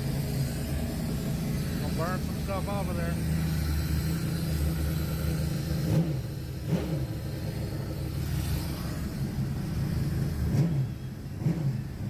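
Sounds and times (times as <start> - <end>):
engine idling: 0.0 - 12.0
engine throttle blips: 0.0 - 12.0.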